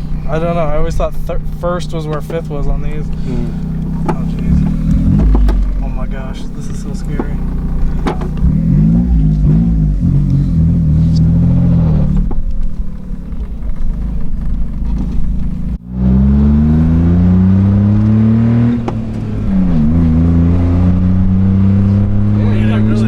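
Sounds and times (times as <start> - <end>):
small engine accelerating: 0.0 - 23.0.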